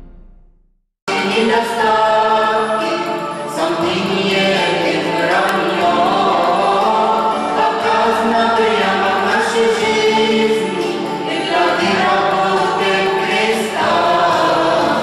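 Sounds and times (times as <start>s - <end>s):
mixed choir singing a hymn: 1.1s - 15.0s.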